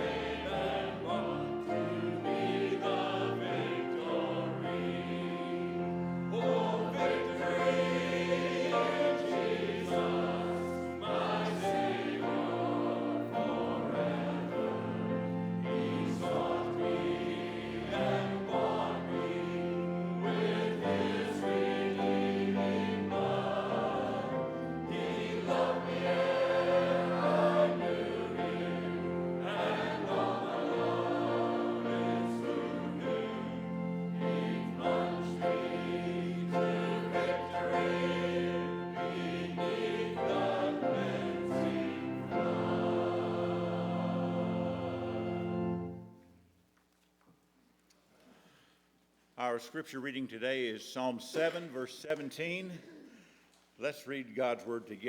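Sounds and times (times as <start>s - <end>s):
choir singing a hymn: 0.0s - 46.4s
instrumental accompaniment: 0.0s - 46.5s.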